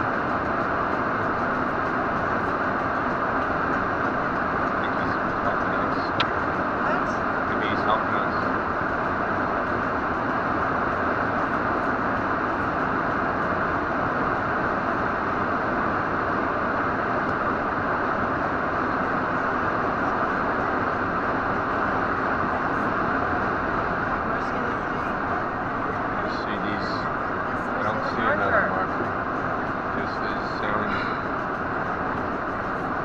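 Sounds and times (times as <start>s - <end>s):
road and wind noise in car: 0.0s - 33.0s.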